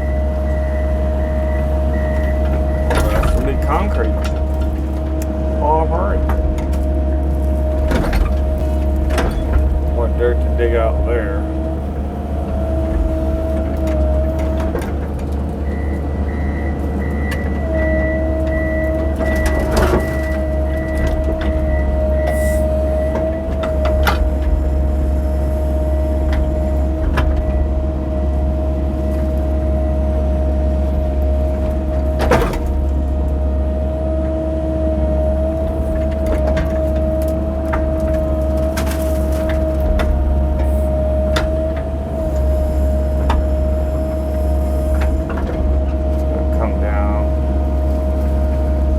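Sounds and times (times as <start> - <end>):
excavator diesel engine: 0.0 - 48.9.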